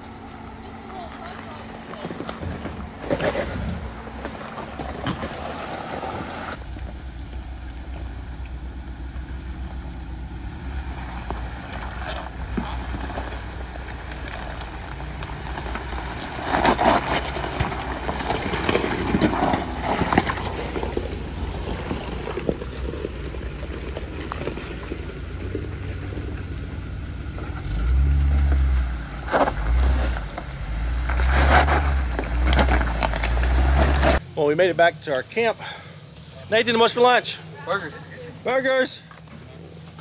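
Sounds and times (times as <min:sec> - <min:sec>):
knocks rattles and scraping: 0:00.0 - 0:34.3
heavy low rumble: 0:00.0 - 0:38.4
vehicle engine running: 0:00.0 - 0:40.0.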